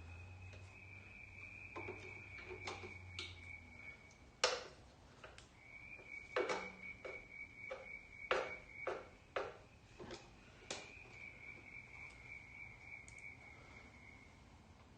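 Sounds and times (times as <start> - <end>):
faint high whine: 0.0 - 4.4, 5.2 - 14.9.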